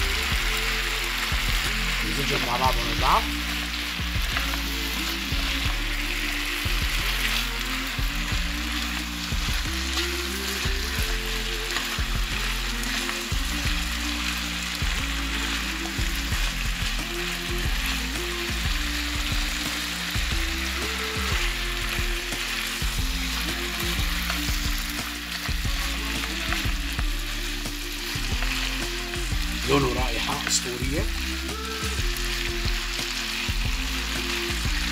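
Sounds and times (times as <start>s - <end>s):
food sizzling in a frying pan: 0.0s - 34.9s
music: 0.0s - 34.9s
spatula stirring food: 0.0s - 34.9s.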